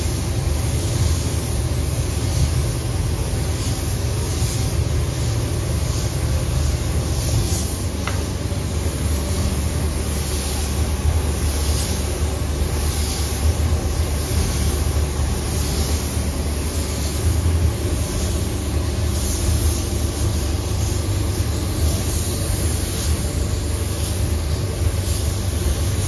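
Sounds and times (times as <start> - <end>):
spray gun air hiss: 0.0 - 26.0.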